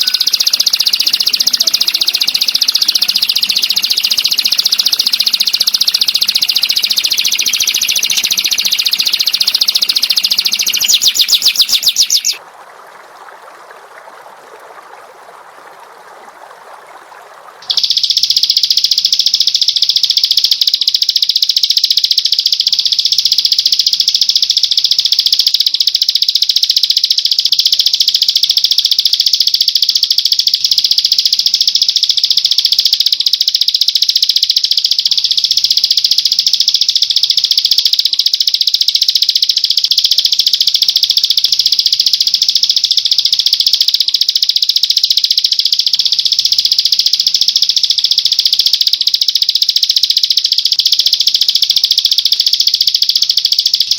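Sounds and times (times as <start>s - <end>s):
songbird fast rattling trill: 0.0s - 12.4s, 17.6s - 53.9s.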